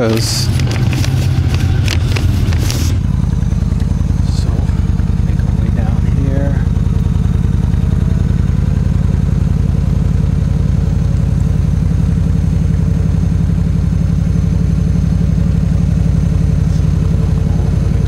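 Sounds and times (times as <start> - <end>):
motorcycle engine pulsing: 0.0 - 18.0.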